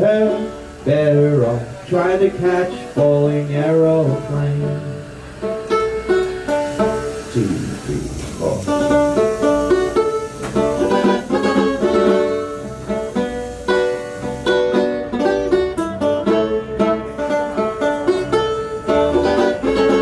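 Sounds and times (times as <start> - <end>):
acoustic band playing picked strings: 0.0 - 20.0.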